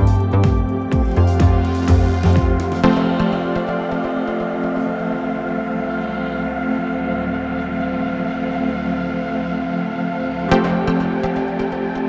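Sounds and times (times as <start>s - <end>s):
ambient music with sustained tones: 0.0s - 12.0s.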